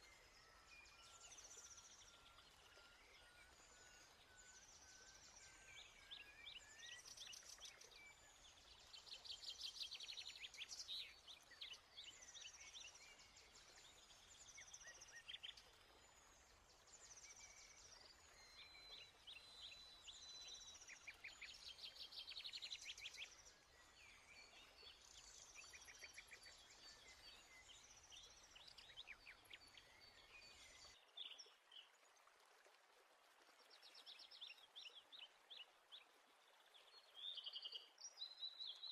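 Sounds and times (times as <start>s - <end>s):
small birds chirping and trilling: 0.0s - 31.9s.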